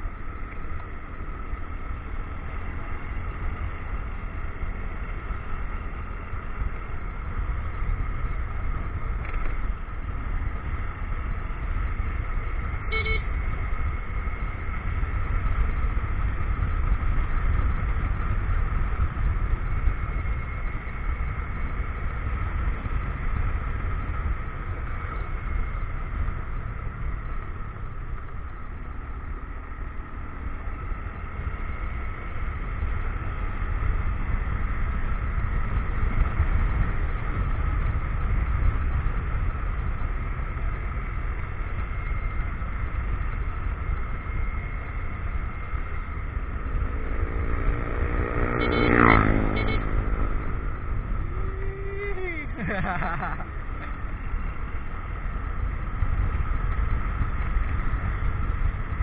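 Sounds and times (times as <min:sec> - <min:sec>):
motorcycle engine running: 0:00.0 - 0:59.0
steady high whine: 0:00.0 - 0:59.0
wind rumble on microphone: 0:00.0 - 0:59.0.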